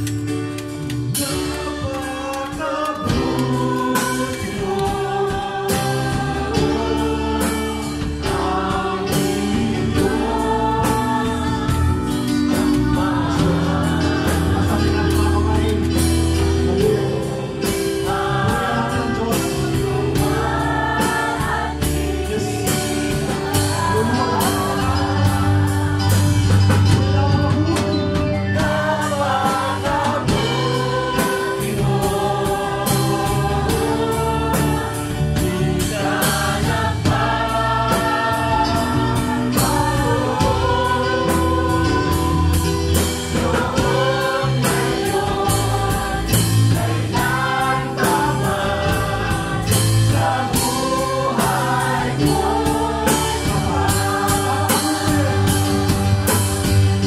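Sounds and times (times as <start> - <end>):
drum kit steady beat: 0.0 - 57.0
electric guitar: 0.0 - 57.0
singer leading group singing: 0.0 - 57.0.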